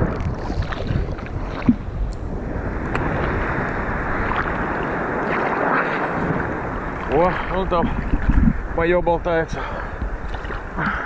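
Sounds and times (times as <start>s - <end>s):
stormy sea waves churning: 0.0s - 11.0s
wind buffeting microphone: 0.0s - 11.0s.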